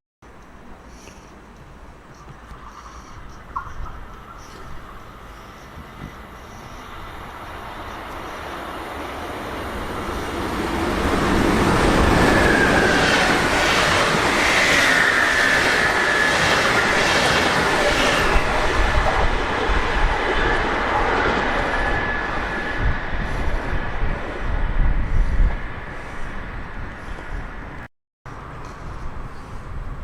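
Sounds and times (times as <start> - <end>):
train passing: 2.2 - 29.5.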